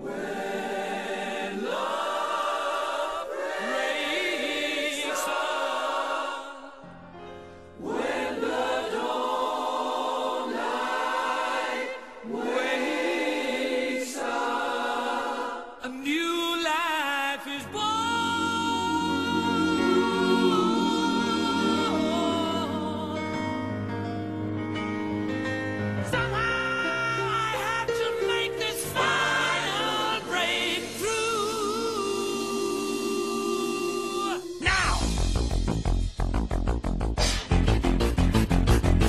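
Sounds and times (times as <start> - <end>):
choir singing held chords: 0.0 - 16.0, 17.6 - 26.6, 27.2 - 35.5.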